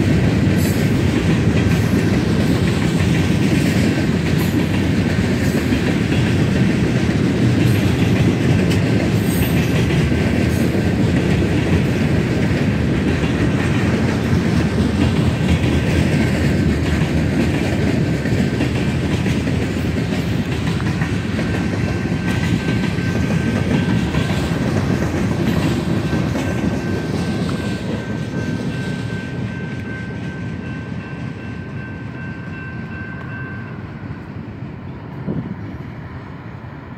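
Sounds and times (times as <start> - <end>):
freight train cars rolling: 0.0 - 36.9
crossing bell ringing: 4.0 - 36.6.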